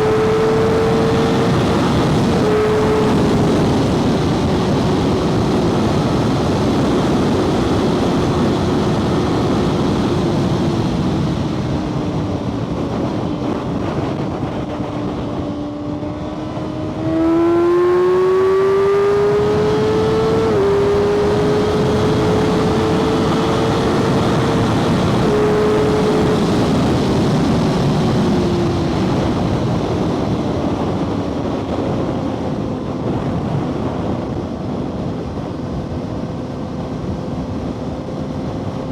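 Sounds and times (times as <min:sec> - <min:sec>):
motorcycle engine revving: 0:00.0 - 0:38.9
steady rush of noise: 0:00.0 - 0:38.9.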